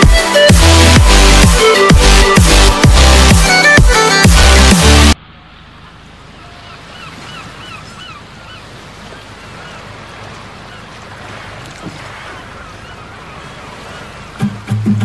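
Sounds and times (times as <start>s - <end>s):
boat engine hum: 0.0s - 15.0s
water rushing along boat hull: 0.0s - 15.0s.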